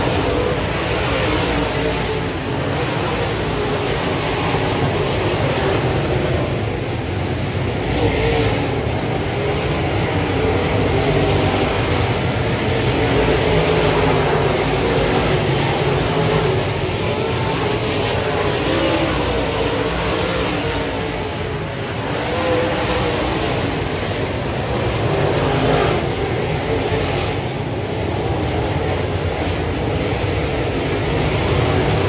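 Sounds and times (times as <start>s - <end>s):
continuous low rumble: 0.0s - 32.0s
race car engines: 0.0s - 32.0s.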